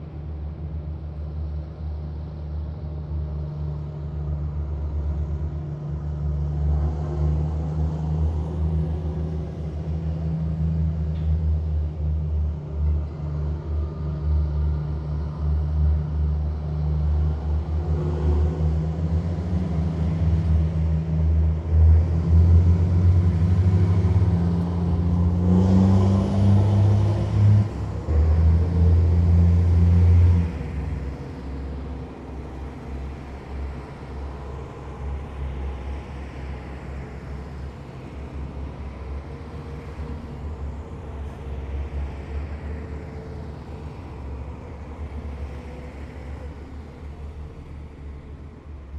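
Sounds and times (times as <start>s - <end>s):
heavy diesel vehicles driving past: 0.0s - 48.9s.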